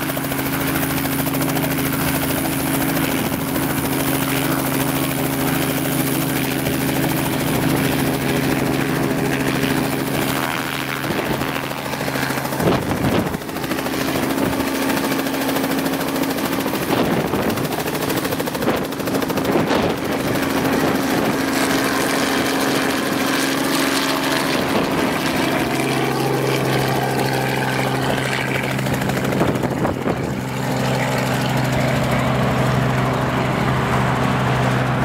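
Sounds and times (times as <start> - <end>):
helicopter rotor chopping: 0.0 - 35.0.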